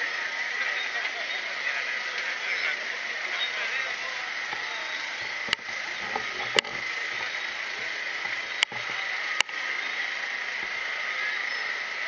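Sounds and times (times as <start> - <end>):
large outdoor crowd noise: 0.0 - 12.0.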